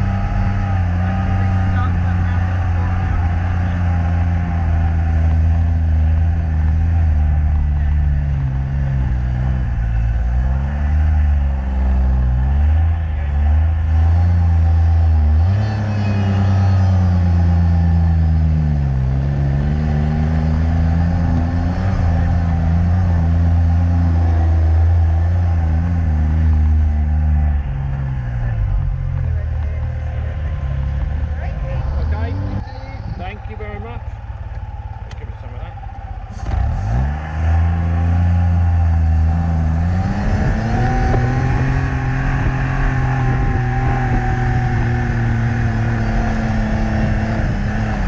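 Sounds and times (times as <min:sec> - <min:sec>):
car engine pulling uphill: 0:00.0 - 0:48.0.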